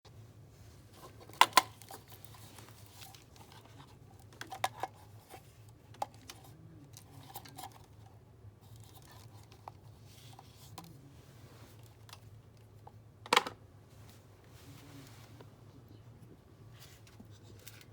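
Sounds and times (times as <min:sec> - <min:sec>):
low steady hum: 0:00.1 - 0:17.9.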